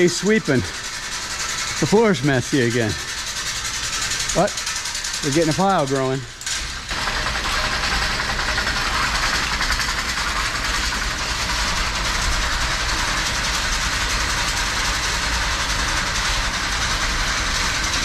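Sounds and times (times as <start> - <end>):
chain rattling on steel track: 0.0 - 18.0.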